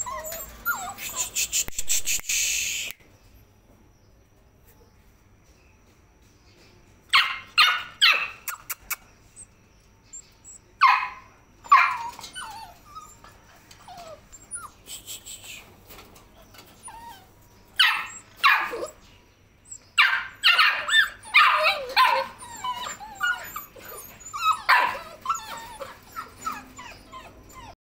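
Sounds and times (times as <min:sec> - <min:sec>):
puppies yipping and whining: 0:00.0 - 0:02.1, 0:07.2 - 0:27.8.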